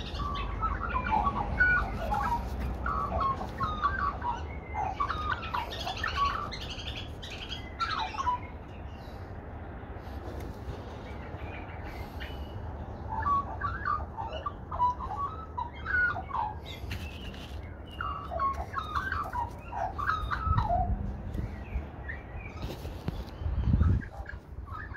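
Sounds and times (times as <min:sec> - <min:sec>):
magpies warbling: 0:00.0 - 0:09.3, 0:10.2 - 0:22.8, 0:23.6 - 0:24.9.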